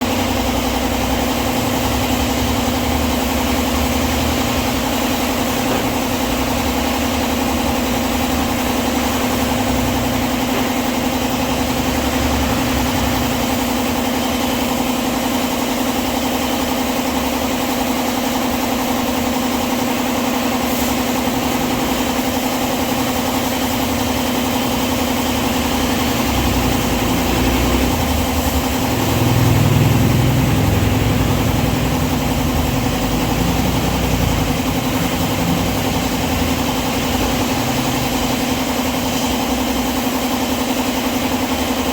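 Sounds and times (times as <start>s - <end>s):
engine humming steadily: 0.0s - 41.9s.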